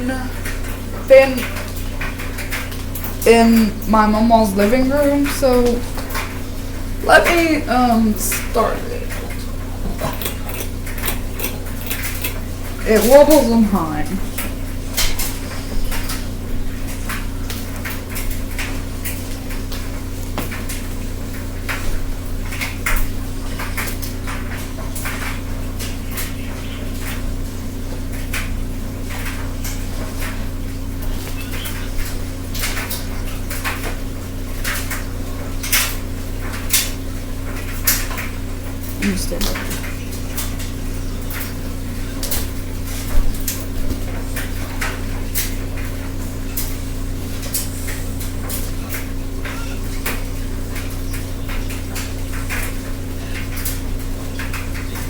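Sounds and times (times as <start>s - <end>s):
ceiling fan motor hum: 0.0s - 55.0s
wobbling fan clicking rattle: 0.0s - 55.0s.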